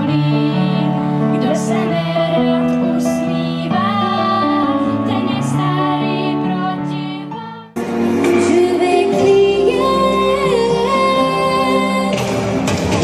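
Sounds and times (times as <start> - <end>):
woman singing: 0.0 - 7.5, 8.4 - 12.3
girls singing into microphones: 0.0 - 12.3
amplified backing track: 0.0 - 13.0.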